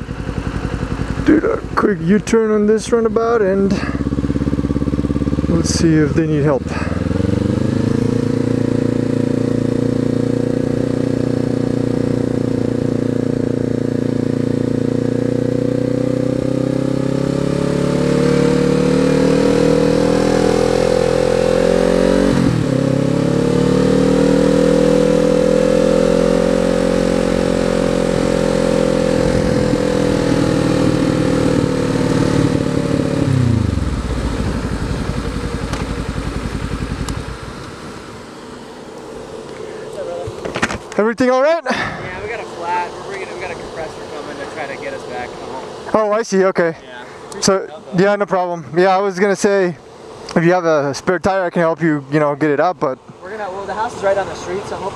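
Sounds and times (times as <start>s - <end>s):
motorcycle engine revving: 0.0s - 52.6s.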